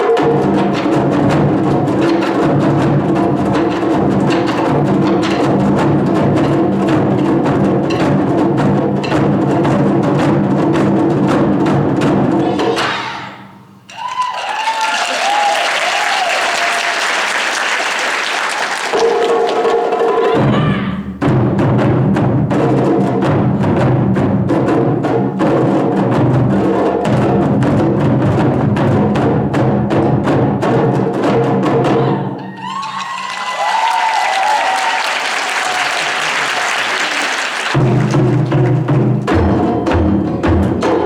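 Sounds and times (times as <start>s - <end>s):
fast taiko drum strokes: 0.0s - 14.2s, 18.5s - 41.0s.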